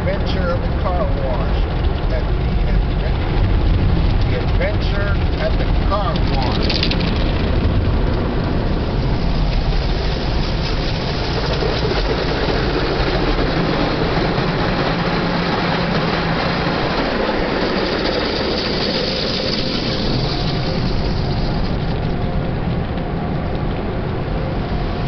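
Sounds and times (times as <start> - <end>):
car wash machinery: 0.0 - 25.0
low rumble: 0.0 - 25.0.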